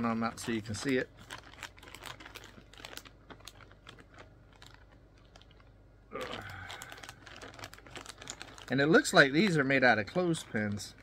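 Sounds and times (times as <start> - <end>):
bag crinkling: 0.0 - 11.0.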